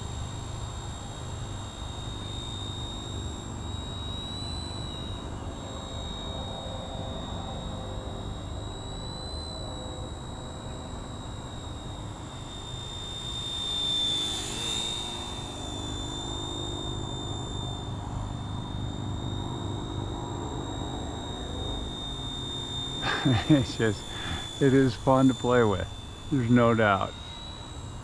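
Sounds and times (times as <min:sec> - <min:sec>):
model helicopter whine: 0:00.0 - 0:28.0.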